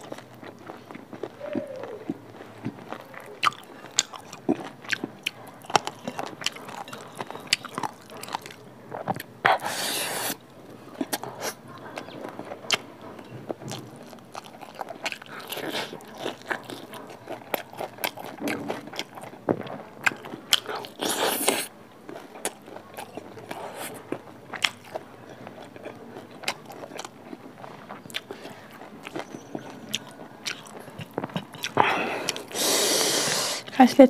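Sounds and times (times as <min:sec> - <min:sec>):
close chewing with mouth clicks: 0:00.0 - 0:34.0.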